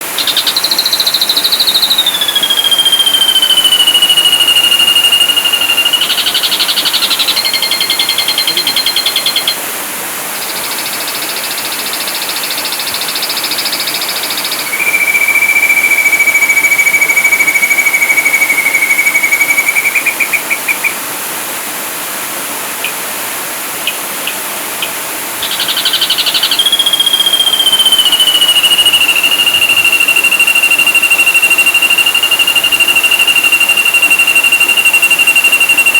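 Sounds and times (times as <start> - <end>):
bird singing whistles and trills: 0.0 - 9.6, 10.5 - 21.0, 24.8 - 35.9.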